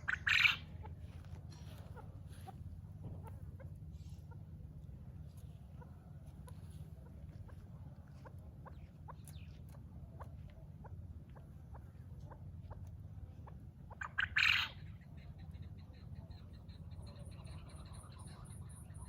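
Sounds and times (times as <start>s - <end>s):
game birds peeping: 0.0s - 19.0s
steady low hum: 0.0s - 19.0s.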